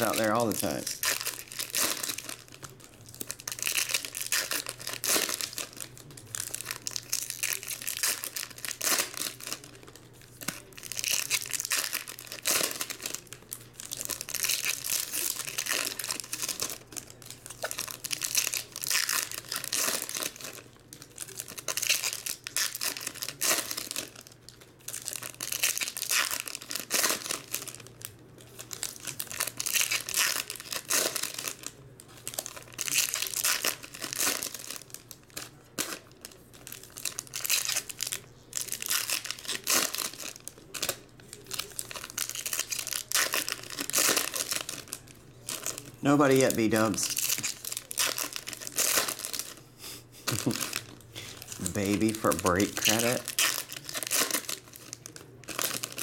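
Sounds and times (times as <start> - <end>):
foil wrappers crinkling and tearing: 0.0 - 56.0.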